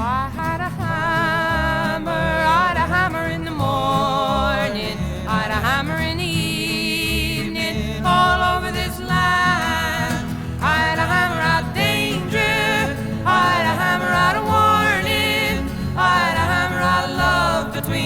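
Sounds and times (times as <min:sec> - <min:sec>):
guitar accompaniment: 0:00.0 - 0:18.0
person singing folk song: 0:00.0 - 0:18.0.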